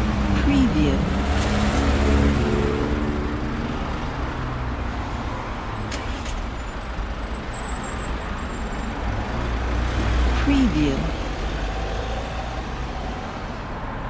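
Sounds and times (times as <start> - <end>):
city street traffic hum: 0.0 - 14.0.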